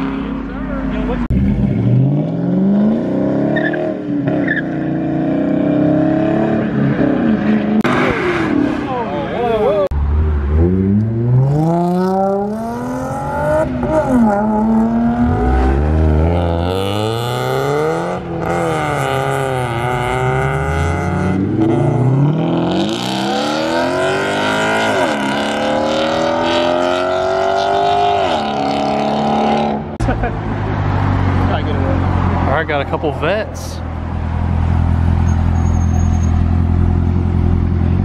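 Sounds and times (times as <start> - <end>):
car engine revving: 0.0 - 33.3.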